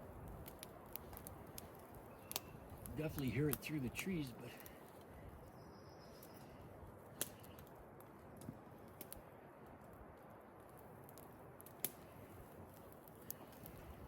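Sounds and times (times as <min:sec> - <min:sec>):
wind in trees: 0:00.0 - 0:14.0.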